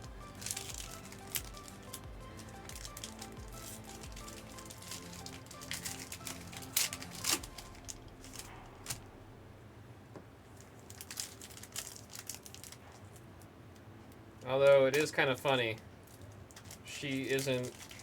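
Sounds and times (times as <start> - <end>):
wrapper crinkling: 0.0 - 9.2, 10.5 - 13.3, 14.4 - 18.0
faint background music: 0.0 - 18.0.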